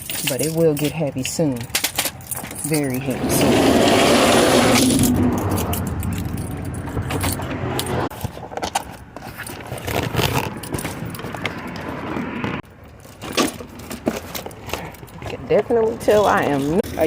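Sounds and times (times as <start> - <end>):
metal clinking and rattling: 0.0 - 11.9, 12.6 - 17.0
low vehicle hum: 0.0 - 17.0.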